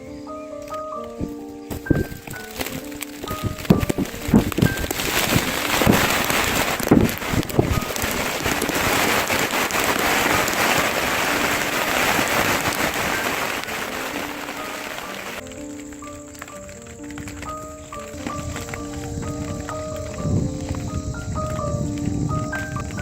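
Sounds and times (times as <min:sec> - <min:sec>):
steady rushing hiss: 0:00.0 - 0:23.0.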